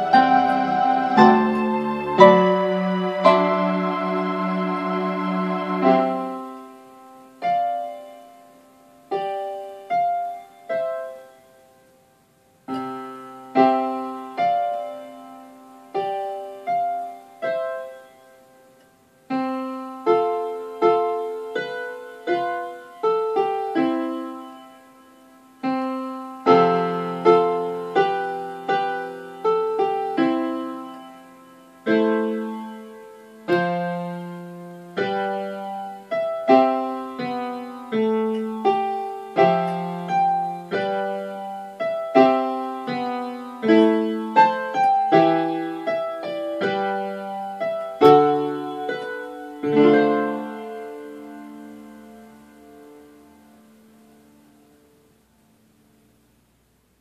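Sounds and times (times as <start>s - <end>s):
solo piano playing gentle piece: 0.0s - 56.4s.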